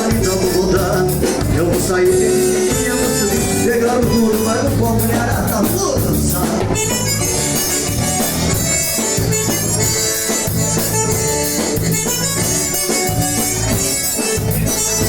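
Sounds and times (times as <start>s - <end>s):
lead melody of held notes: 0.0s - 15.0s
repeating bass line: 0.0s - 15.0s.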